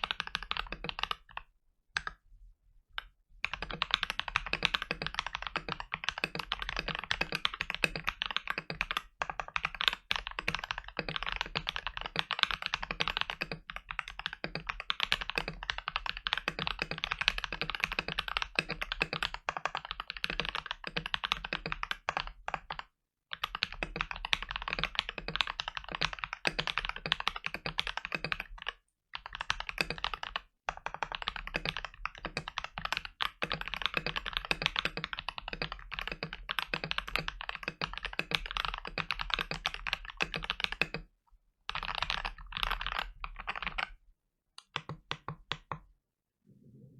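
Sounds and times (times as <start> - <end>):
fast typing on mechanical keyboard: 0.0 - 1.4, 3.4 - 41.1, 41.7 - 44.0, 44.6 - 45.8.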